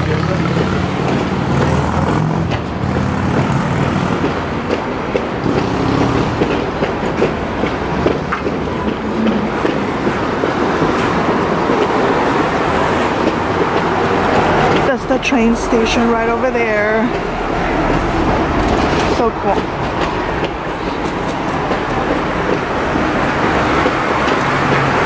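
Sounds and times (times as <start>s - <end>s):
city traffic noise: 0.0s - 25.0s
tram rumbling: 0.0s - 25.0s.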